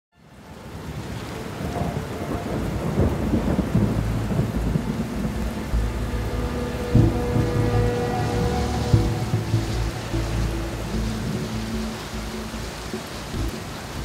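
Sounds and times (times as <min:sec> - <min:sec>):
rain: 0:00.1 - 0:14.0
rolling thunder: 0:01.2 - 0:14.0.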